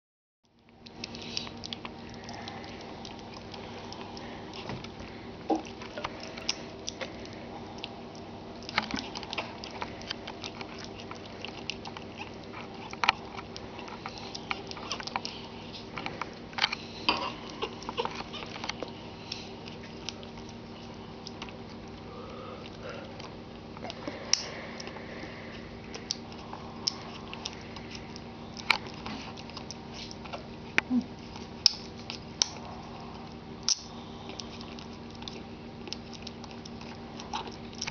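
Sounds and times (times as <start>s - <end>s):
steady low hum: 0.5s - 37.9s
puppy lapping and smacking: 0.7s - 22.0s, 25.8s - 37.9s.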